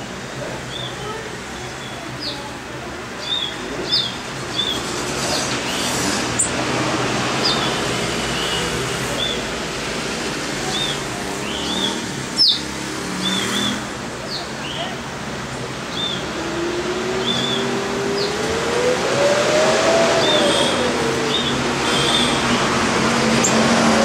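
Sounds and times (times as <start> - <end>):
birds chirping: 0.5 - 9.8, 10.5 - 24.0.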